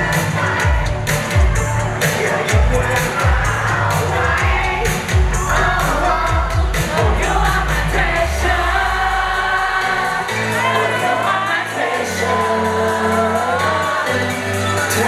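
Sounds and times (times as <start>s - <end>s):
backing track with deep bass: 0.0s - 15.0s
male voices singing: 0.0s - 15.0s.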